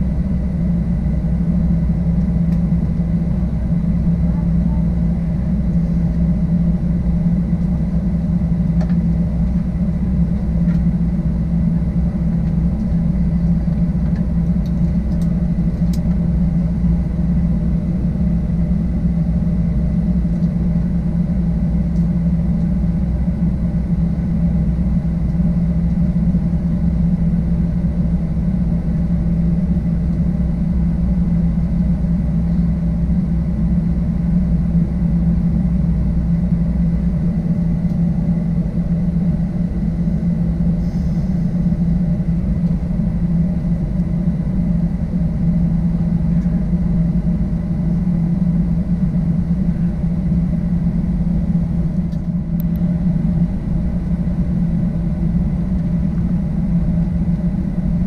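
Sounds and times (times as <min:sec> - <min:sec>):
airplane cabin hum: 0:00.0 - 0:58.0.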